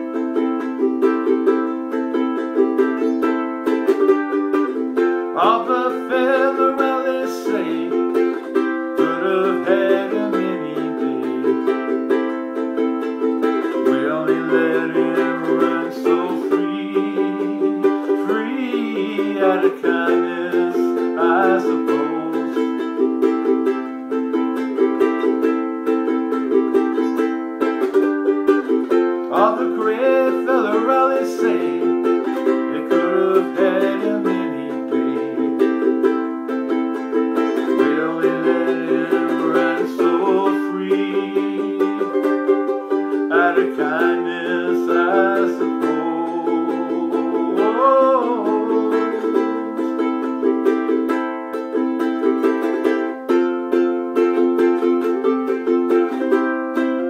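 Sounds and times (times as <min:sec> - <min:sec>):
ukulele playing: 0:00.0 - 0:57.0.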